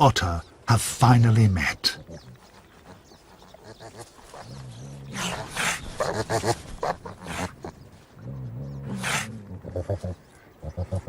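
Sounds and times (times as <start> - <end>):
otters calling: 0.1 - 11.0.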